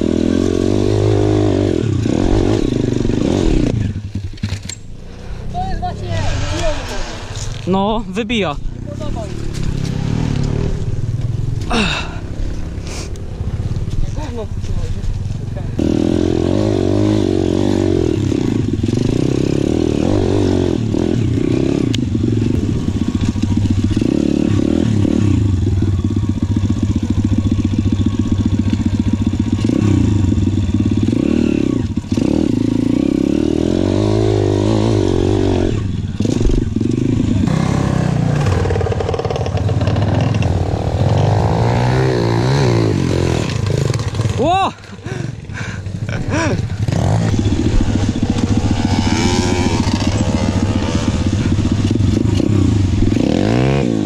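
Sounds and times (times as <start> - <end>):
dirt bike engine revving: 0.0 - 13.8, 15.7 - 54.0.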